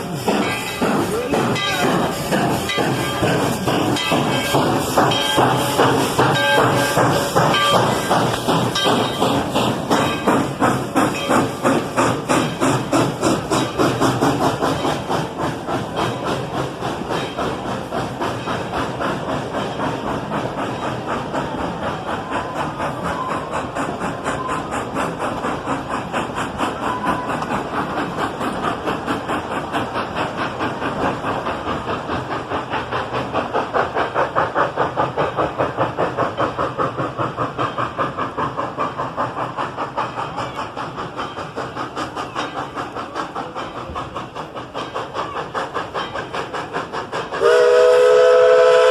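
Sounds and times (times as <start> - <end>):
hiss of steam: 0.0 - 48.9
steam locomotive chuffing: 0.0 - 48.9.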